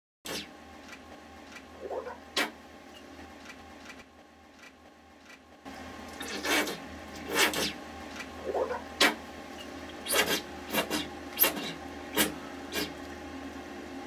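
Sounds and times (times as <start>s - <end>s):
steady low hum: 0.3s - 14.0s.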